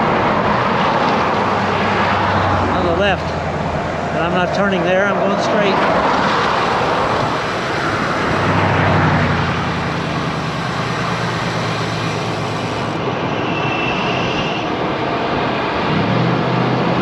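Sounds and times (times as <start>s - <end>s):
passing motor vehicle hum: 0.0s - 13.3s, 14.8s - 17.0s
road noise: 0.0s - 17.0s
wind noise: 0.0s - 17.0s.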